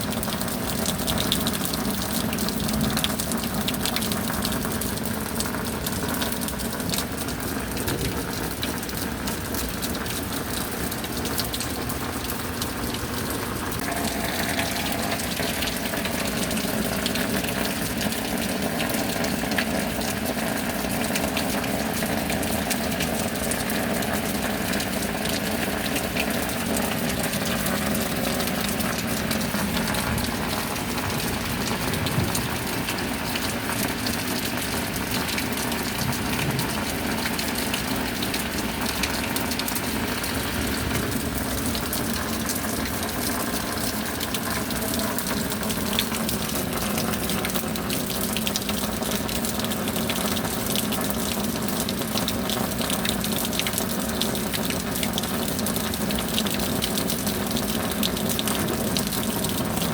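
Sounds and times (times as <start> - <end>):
heavy rain falling: 0.0 - 59.9
water running: 0.0 - 59.9.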